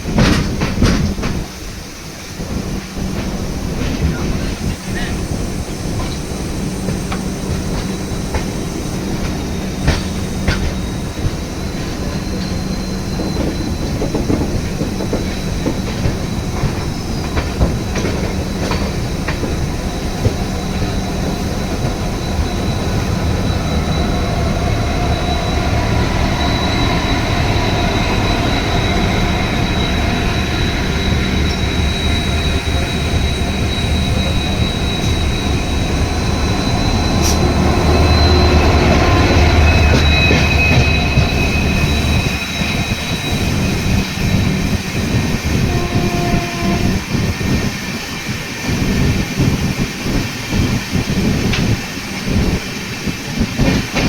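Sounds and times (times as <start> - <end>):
train rumbling on rails: 0.0 - 54.0
high wheel squeal: 0.9 - 54.0.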